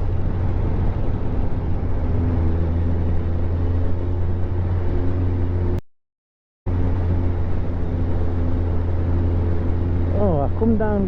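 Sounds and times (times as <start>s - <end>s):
motorcycle engine drone: 0.0s - 5.8s, 6.7s - 11.0s
wind and road noise: 0.0s - 5.8s, 6.7s - 11.0s.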